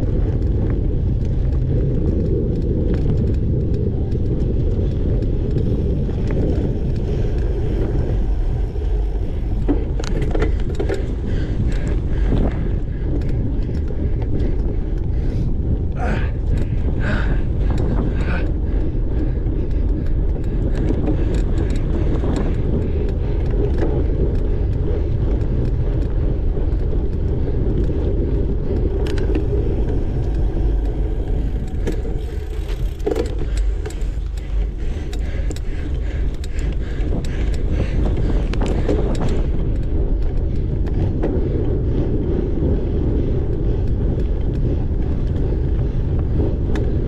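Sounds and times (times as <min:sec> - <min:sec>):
bike clicking and rattling: 0:00.0 - 0:47.0
wind on microphone: 0:00.0 - 0:47.0.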